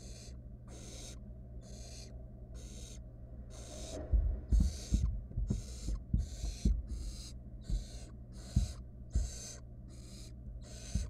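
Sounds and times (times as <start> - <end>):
owlets hissing begging calls: 0.0 - 4.0, 4.6 - 11.0.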